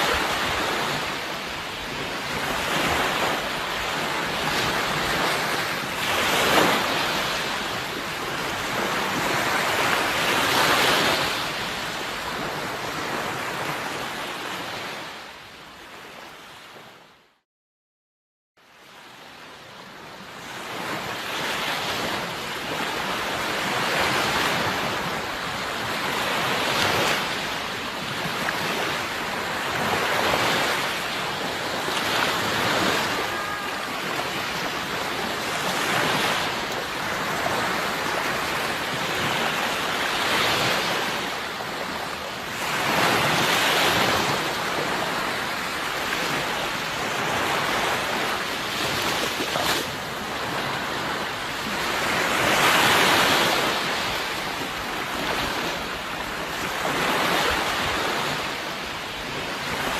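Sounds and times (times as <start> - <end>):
sea waves breaking: 0.0 - 17.1, 18.8 - 59.9.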